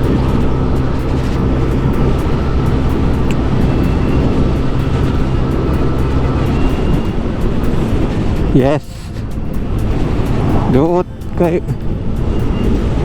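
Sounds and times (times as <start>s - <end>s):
road and wind noise: 0.0s - 13.0s
scooter engine cruising: 0.0s - 13.0s.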